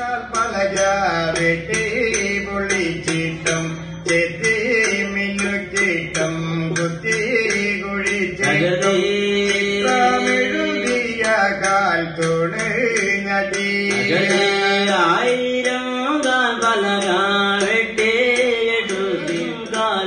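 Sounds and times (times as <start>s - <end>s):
men singing ritual song: 0.0s - 20.0s
percussive strikes: 0.0s - 20.0s.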